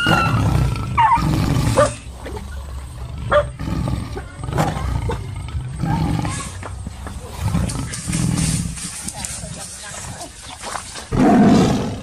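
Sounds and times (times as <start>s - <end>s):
tiger roaring: 0.0s - 9.0s, 11.1s - 12.0s.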